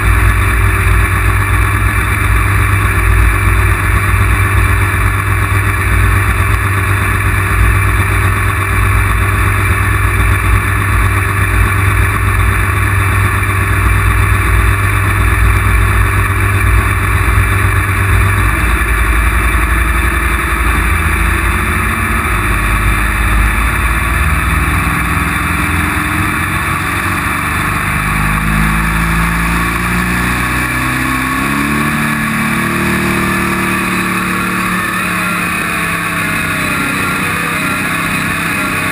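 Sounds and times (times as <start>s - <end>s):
tractor engine running hard: 0.0s - 38.9s.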